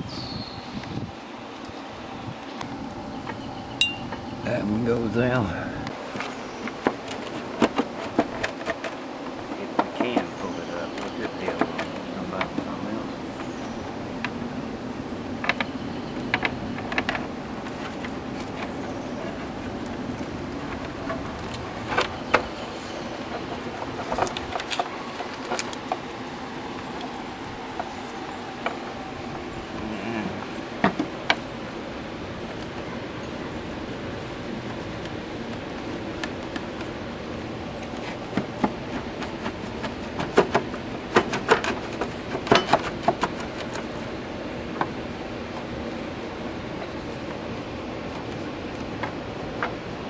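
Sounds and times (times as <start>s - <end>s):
steady background hiss: 0.0s - 50.0s
steady background noise: 0.0s - 50.0s.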